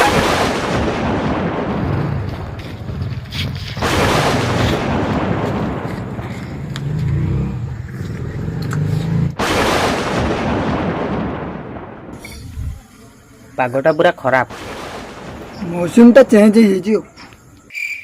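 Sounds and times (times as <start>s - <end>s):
thunder crack and rumble: 0.0s - 12.8s, 14.5s - 16.6s.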